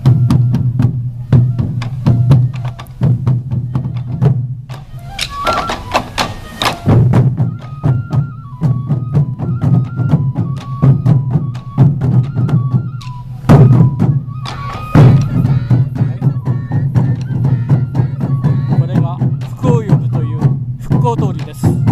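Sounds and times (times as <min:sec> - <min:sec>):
bamboo flute melody: 0:00.0 - 0:21.9
taiko drums beating: 0:00.0 - 0:21.9.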